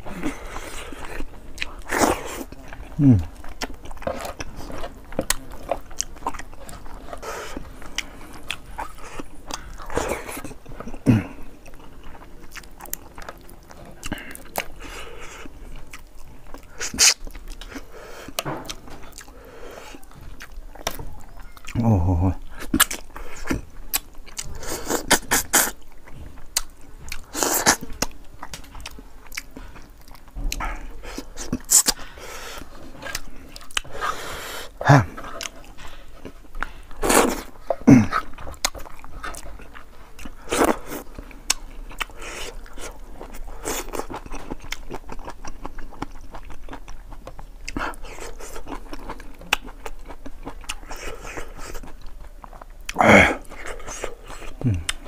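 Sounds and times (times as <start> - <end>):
man chewing fish head: 0.0 - 21.8, 22.4 - 55.0.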